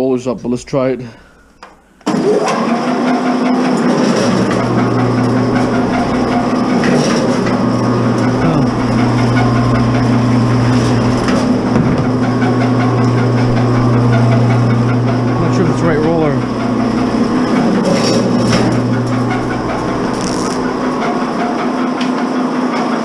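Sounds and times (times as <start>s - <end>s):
wire stripping machine humming: 1.2s - 23.0s.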